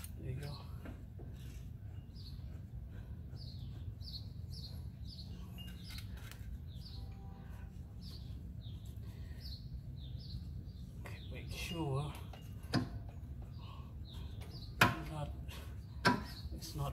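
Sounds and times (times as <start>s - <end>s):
bird chirping: 0.0s - 16.9s
low background rumble: 0.0s - 16.9s.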